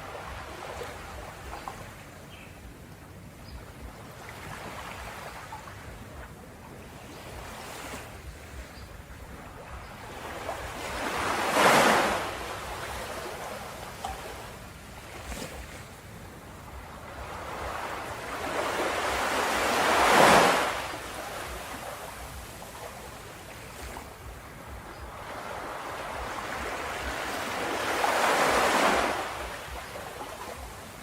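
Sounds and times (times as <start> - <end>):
waves crashing: 0.0 - 2.4, 3.8 - 31.0.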